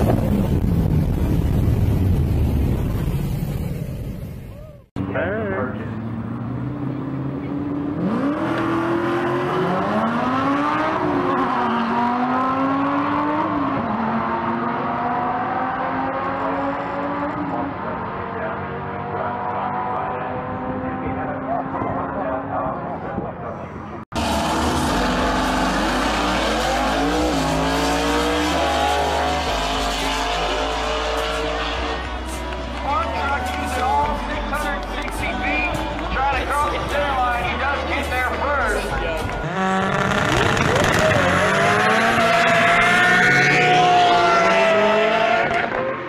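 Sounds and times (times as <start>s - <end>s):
engines revving at full throttle: 5.0s - 46.0s
racing cars accelerating: 5.0s - 46.0s.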